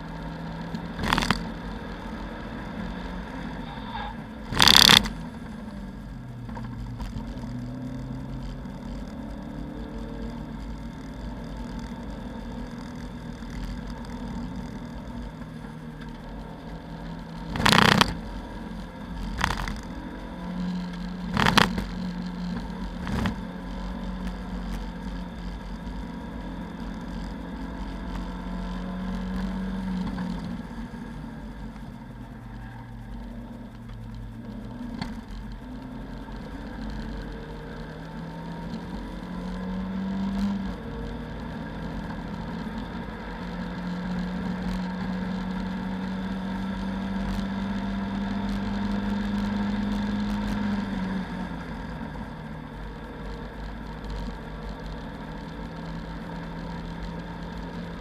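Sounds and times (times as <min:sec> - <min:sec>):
race car engine under hard driving: 0:00.0 - 0:58.0.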